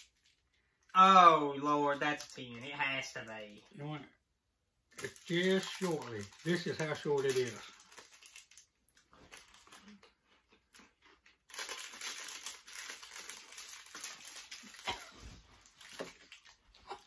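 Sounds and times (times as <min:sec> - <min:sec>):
plastic wrapper crinkling: 0:00.0 - 0:00.9, 0:01.8 - 0:03.8, 0:04.9 - 0:17.0.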